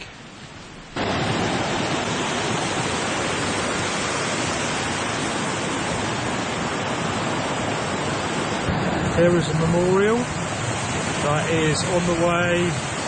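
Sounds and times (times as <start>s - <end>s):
fast-flowing water rushing: 0.0s - 13.0s.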